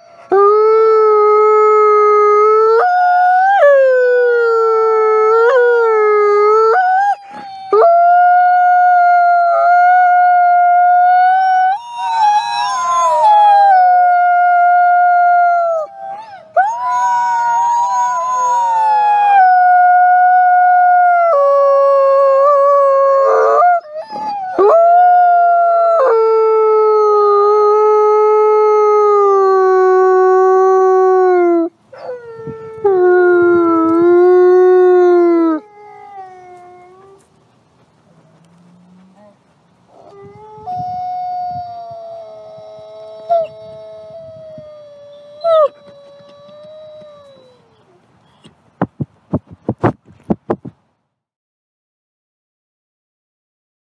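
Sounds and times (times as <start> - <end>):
wolf howling: 0.0 - 37.3, 38.4 - 48.0.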